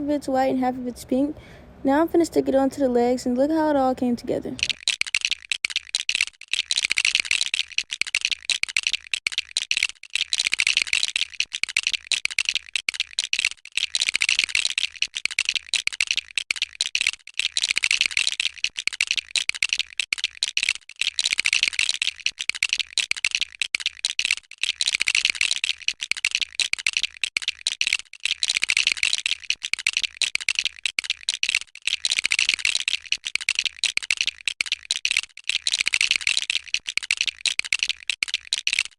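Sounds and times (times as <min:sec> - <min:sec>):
plastic bricks clicking and rattling: 0:04.6 - 0:38.9.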